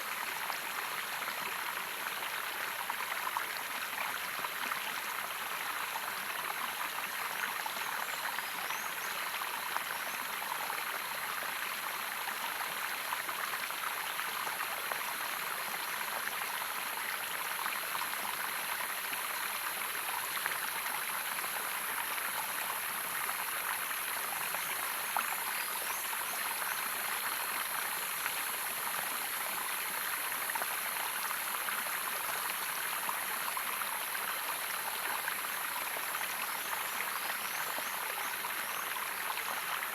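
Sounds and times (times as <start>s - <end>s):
stream water splashing and rushing: 0.0s - 39.9s.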